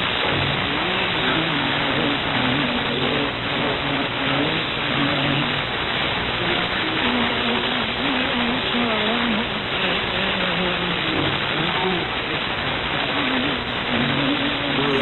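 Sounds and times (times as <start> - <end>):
faint radio broadcast audio: 0.0 - 15.0
radio static hiss: 0.0 - 15.0.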